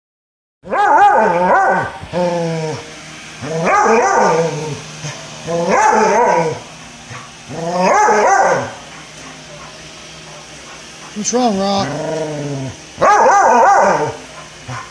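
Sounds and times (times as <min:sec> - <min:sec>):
dog bark-howling: 0:00.6 - 0:02.8, 0:03.4 - 0:11.2, 0:11.8 - 0:14.9.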